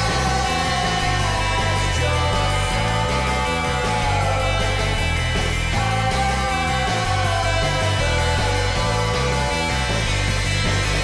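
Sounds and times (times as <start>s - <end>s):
pulsing bass line: 0.0s - 11.0s
rock music with guitar: 0.0s - 11.0s.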